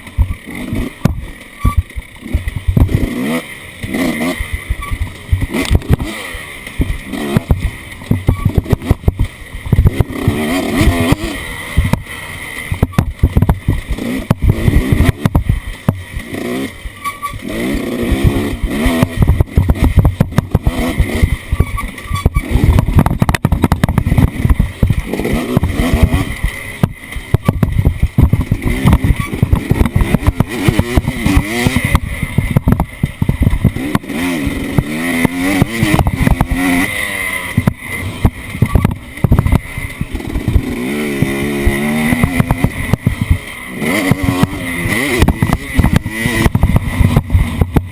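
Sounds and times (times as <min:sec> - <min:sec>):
off-road engine revving: 0:00.0 - 0:47.9
knocks and rattles: 0:03.8 - 0:12.1, 0:12.7 - 0:16.4, 0:17.0 - 0:36.9, 0:37.5 - 0:47.9.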